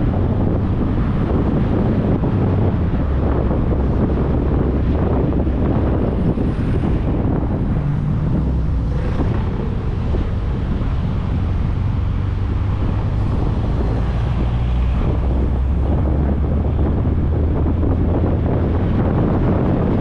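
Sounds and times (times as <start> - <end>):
car engine droning: 0.0 - 20.0
wind rushing over microphone: 0.0 - 20.0.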